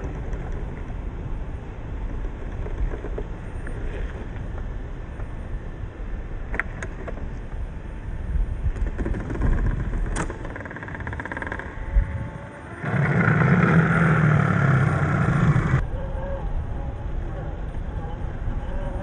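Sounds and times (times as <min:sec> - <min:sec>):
electric motor and gear whine: 0:00.0 - 0:19.0.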